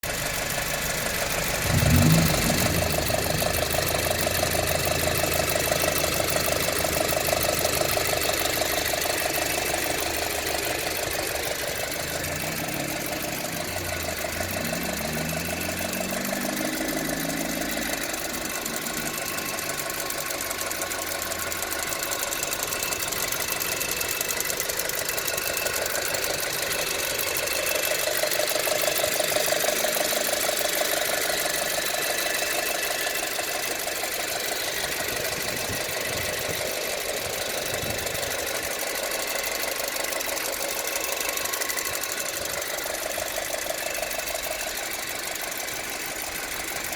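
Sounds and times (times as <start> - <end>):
car engine running: 0.0 - 46.9
fast ticking clatter: 0.0 - 46.9.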